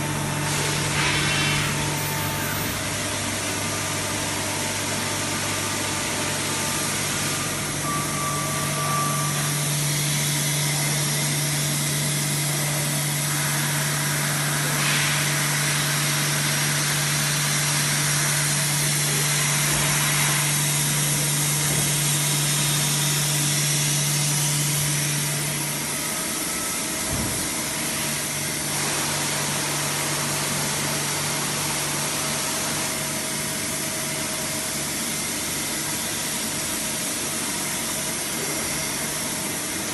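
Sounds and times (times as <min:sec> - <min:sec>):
machine hum and hiss: 0:00.0 - 0:39.9.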